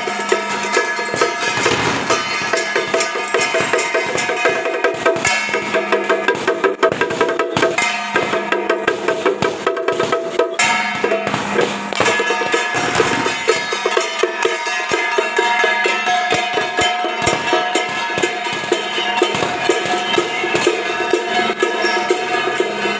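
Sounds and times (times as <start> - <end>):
drum strokes: 0.0 - 22.9
wood block percussion clatter: 0.0 - 22.9.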